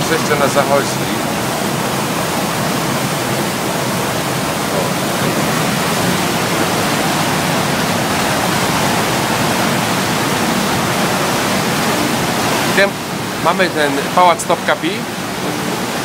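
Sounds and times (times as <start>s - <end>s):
churning wake water: 0.0s - 16.0s.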